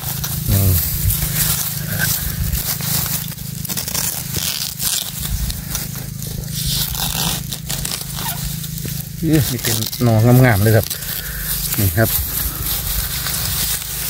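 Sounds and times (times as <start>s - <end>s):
dry leaves crackling: 0.0s - 14.0s
knife scraping bamboo: 1.2s - 14.0s.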